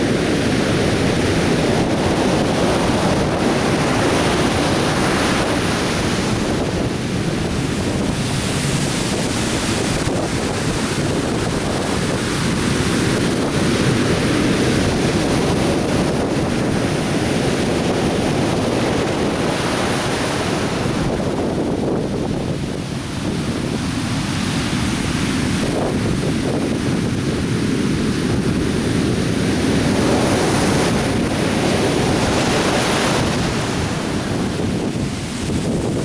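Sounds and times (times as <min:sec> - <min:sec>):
surf washing on beach: 0:00.0 - 0:36.0
wind buffeting microphone: 0:00.0 - 0:36.0.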